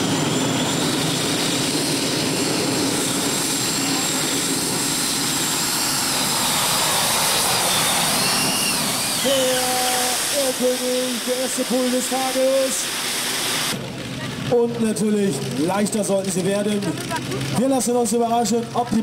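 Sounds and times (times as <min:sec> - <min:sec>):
turbine engines roaring with whine: 0:00.0 - 0:19.0.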